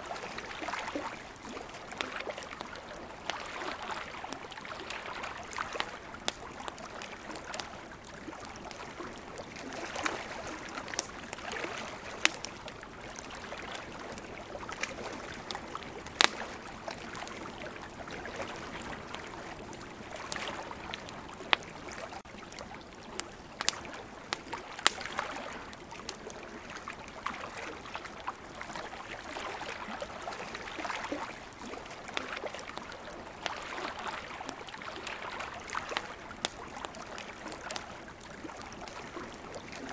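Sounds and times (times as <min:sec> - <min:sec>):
campfire crackling and popping: 0:00.1 - 0:39.9.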